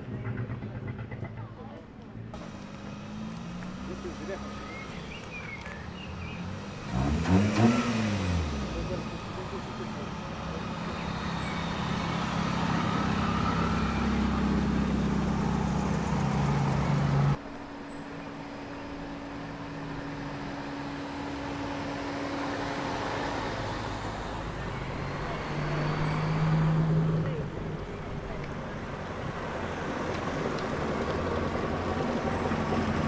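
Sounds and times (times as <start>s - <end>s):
car engines driving past: 0.0s - 33.0s.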